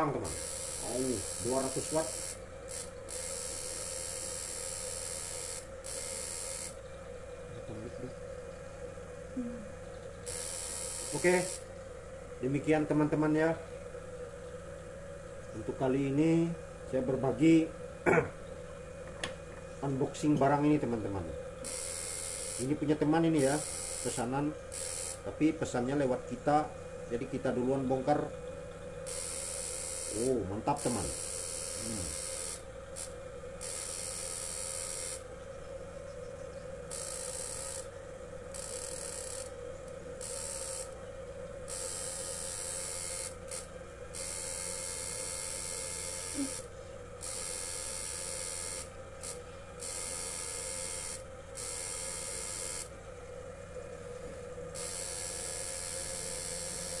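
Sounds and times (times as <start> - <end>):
inverter electrical whine: 0.0 - 57.0.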